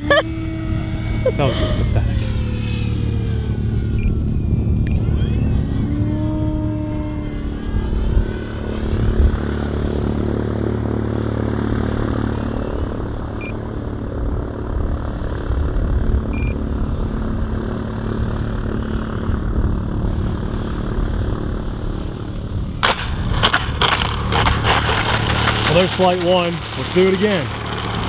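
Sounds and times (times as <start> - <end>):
model plane motor and propeller: 0.0 - 28.0
wind rumbling on microphone: 0.0 - 28.0.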